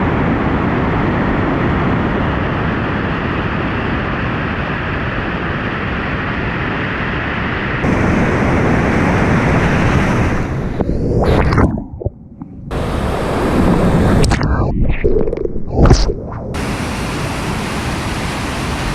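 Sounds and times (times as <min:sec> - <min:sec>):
white water roaring: 0:00.0 - 0:14.7, 0:16.5 - 0:18.9.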